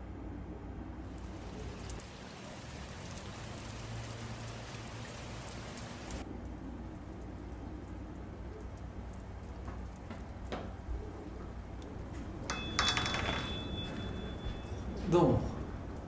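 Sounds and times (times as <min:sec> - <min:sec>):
steady rain hiss: 0:01.0 - 0:16.0.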